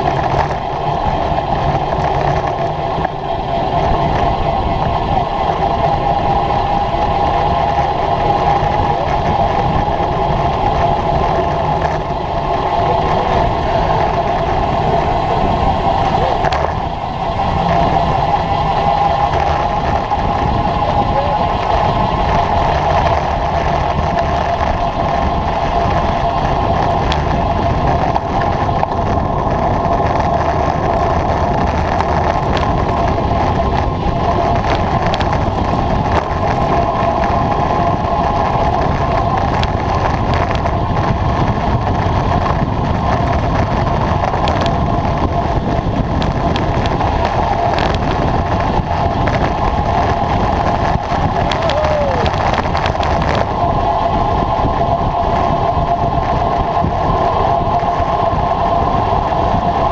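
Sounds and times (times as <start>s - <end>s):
bike tyre noise on road: 0.0s - 59.9s
wind rushing over microphone: 0.0s - 59.9s.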